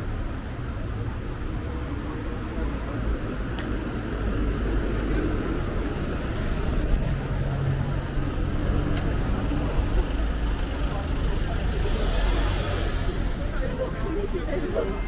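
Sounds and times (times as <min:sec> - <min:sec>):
cars passing with low rumble: 0:00.0 - 0:15.0
engine hum: 0:00.0 - 0:15.0.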